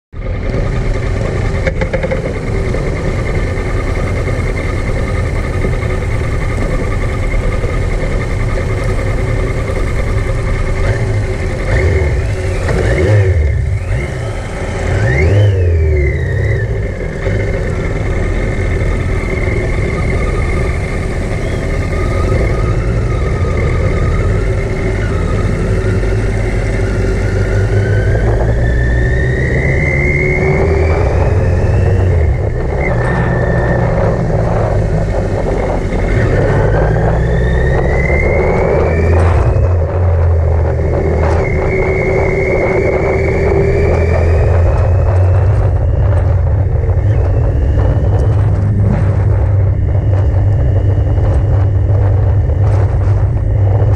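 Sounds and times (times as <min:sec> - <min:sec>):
motorcycle engine at speed: 0:00.1 - 0:53.9.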